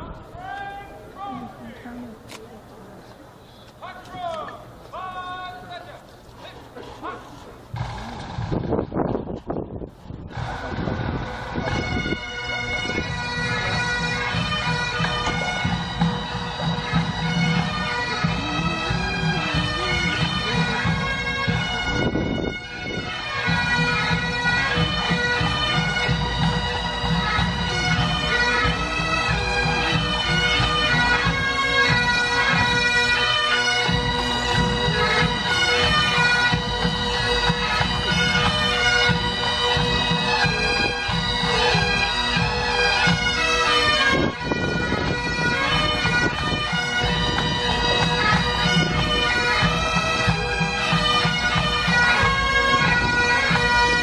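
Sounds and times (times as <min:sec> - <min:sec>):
pipe band drums beating: 0:06.7 - 0:09.3, 0:10.2 - 0:54.0
bagpipes playing melody over drones: 0:10.3 - 0:54.0.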